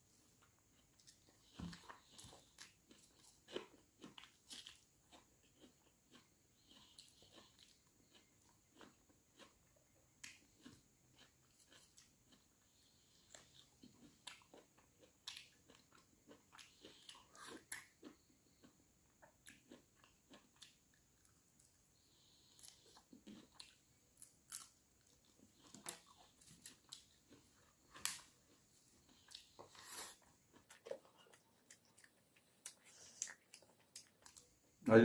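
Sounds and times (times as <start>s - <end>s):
wet chewing: 0.3s - 34.6s.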